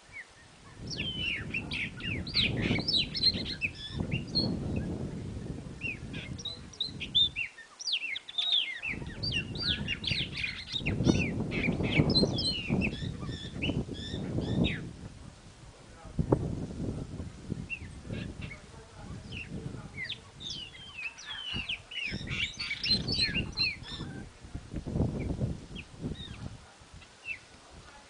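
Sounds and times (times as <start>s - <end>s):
songbirds chirping and singing: 0.0s - 15.3s, 16.0s - 28.0s.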